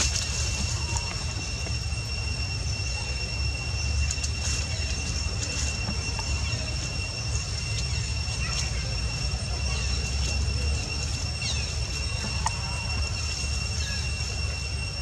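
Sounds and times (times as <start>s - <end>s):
high-pitched whine: 0.0s - 15.0s
low outdoor rumble: 0.0s - 15.0s.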